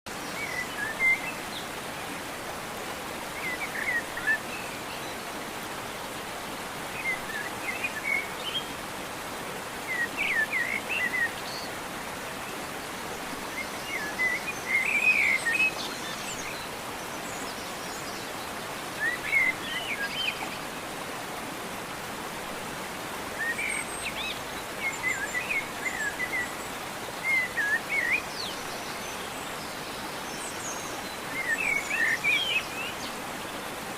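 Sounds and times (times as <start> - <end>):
outdoor background hiss: 0.1 - 33.9.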